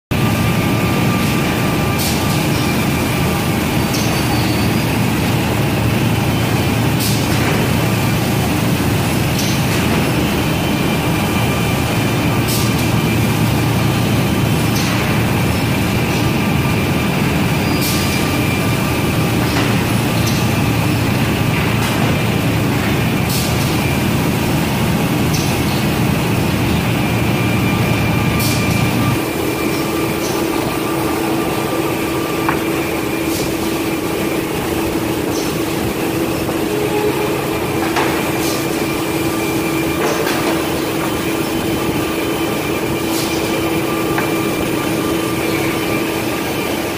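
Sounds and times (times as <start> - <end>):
boring machine running: 0.1 - 46.9.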